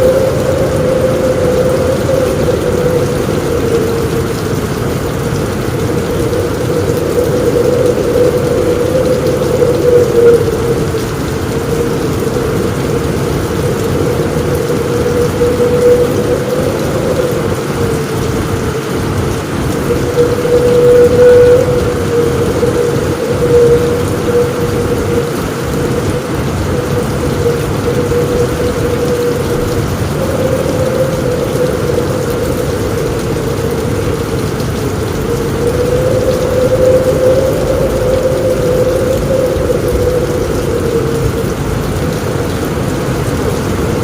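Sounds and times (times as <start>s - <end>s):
heavy rain on a roof: 0.0s - 44.0s.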